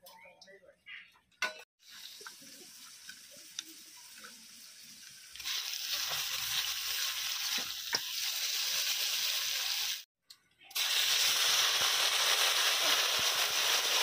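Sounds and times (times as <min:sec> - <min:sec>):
prawns sizzling in hot oil: 0:01.8 - 0:10.1, 0:10.7 - 0:14.0.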